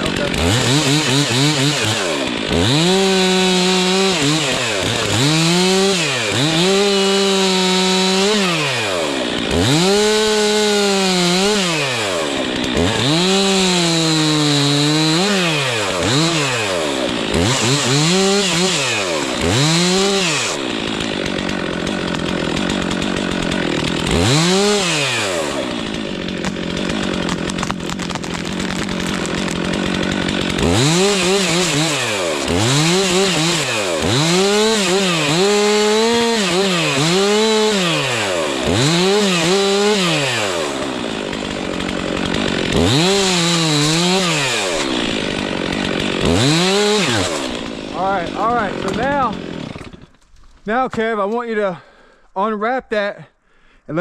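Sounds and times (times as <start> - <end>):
chainsaw cutting wood: 0.0 - 52.2.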